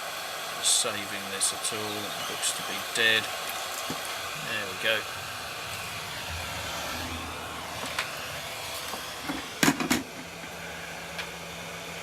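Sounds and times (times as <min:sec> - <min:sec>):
hot-air gun blowing: 0:00.0 - 0:12.0.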